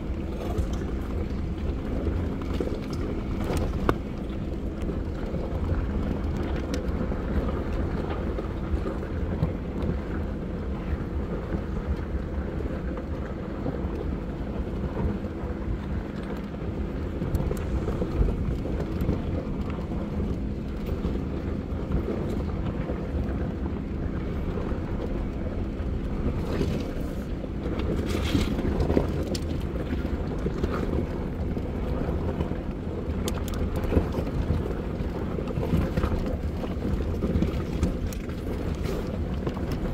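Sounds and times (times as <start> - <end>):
vehicle engine rumble: 0.0 - 39.9
wind on microphone: 0.0 - 39.9.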